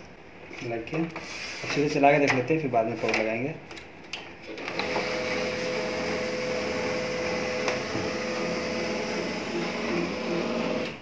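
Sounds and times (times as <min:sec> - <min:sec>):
printer motors and fan whirring: 0:00.0 - 0:03.8, 0:04.4 - 0:11.0.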